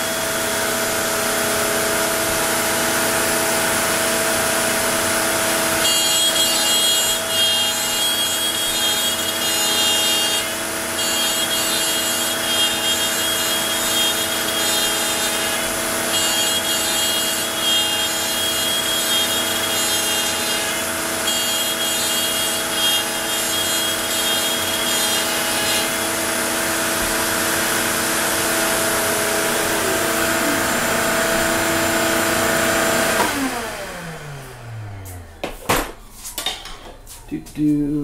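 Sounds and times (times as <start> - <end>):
router spindle whining: 0.0 - 35.4.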